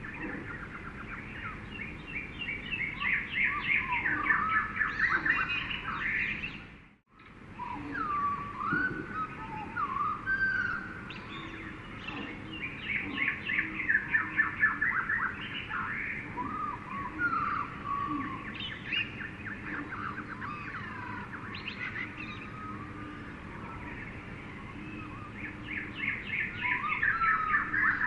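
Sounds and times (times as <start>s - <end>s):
whistled bird notes: 0.0s - 6.7s, 7.6s - 28.0s.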